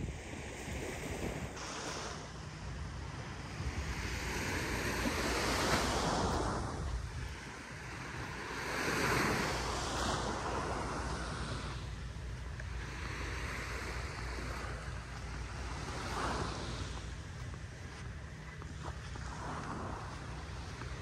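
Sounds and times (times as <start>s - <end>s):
small surf washing onto beach: 0.0s - 2.7s, 3.3s - 21.0s
wind rumbling on microphone: 0.0s - 21.0s.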